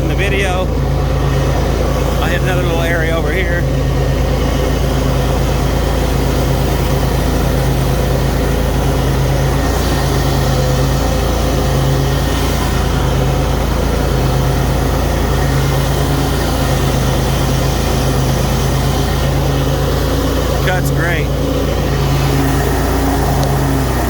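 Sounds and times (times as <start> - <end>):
mower engine cutting grass: 0.0 - 24.0.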